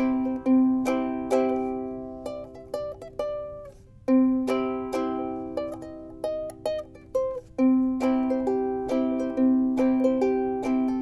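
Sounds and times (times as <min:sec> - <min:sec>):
ukulele plucked notes and strummed chords: 0:00.0 - 0:11.0.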